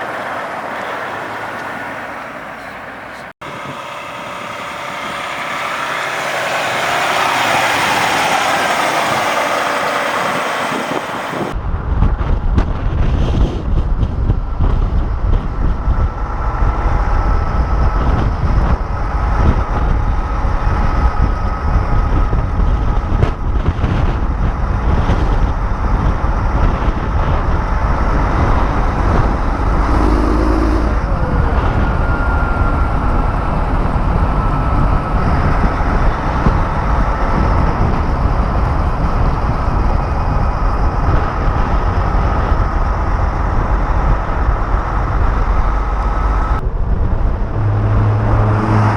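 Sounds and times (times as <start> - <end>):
truck engines rumbling: 0.0 - 48.9
wind noise on microphone: 3.4 - 48.9.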